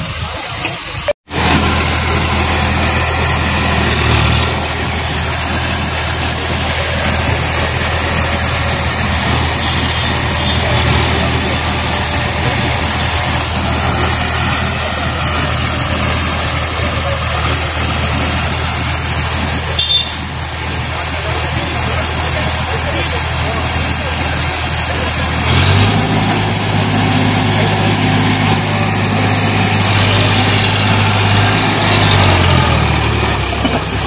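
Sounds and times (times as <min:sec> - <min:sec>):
tractor diesel engine running: 0:01.2 - 0:34.0.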